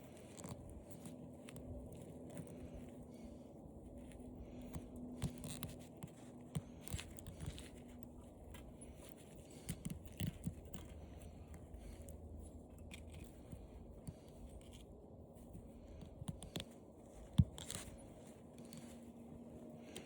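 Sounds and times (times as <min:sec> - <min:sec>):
wire clicks and scrapes: 0:00.0 - 0:20.0.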